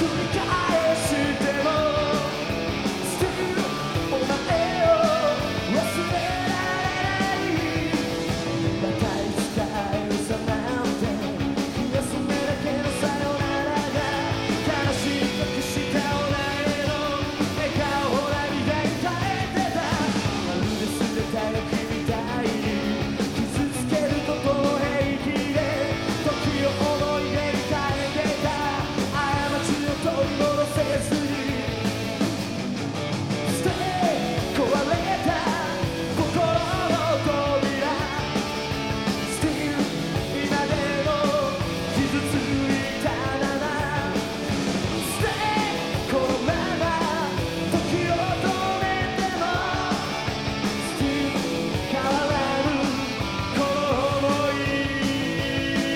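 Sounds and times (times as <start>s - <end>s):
person singing: 0.0s - 32.0s, 33.5s - 55.9s
bass guitar: 0.0s - 55.9s
drums: 0.0s - 55.9s
electric guitar: 0.0s - 55.9s.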